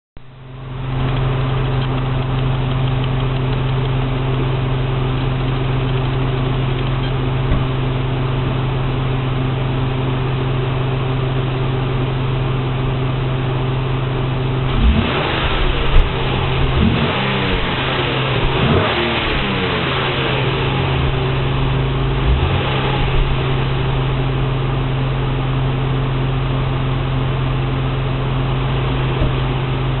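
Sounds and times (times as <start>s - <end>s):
car engine idling and revving: 0.2s - 30.0s.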